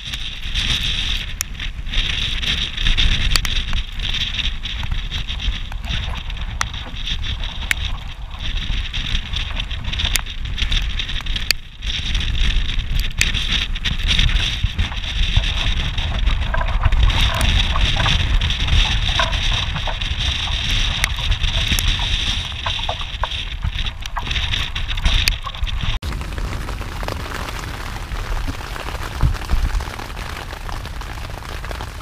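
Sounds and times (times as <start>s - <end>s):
water rushing along hull: 0.0s - 32.0s
wind buffeting microphone: 0.0s - 32.0s.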